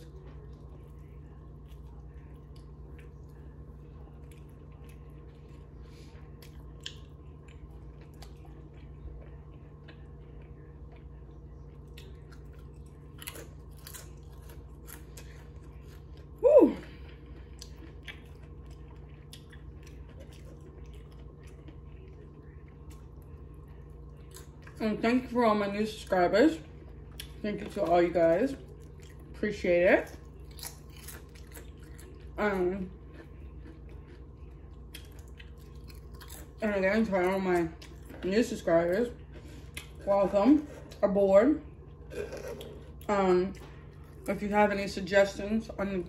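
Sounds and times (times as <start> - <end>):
person chewing: 0.0 - 24.8, 26.6 - 27.9, 28.5 - 29.4, 30.1 - 41.0, 41.8 - 44.3
steady low hum: 0.0 - 46.0.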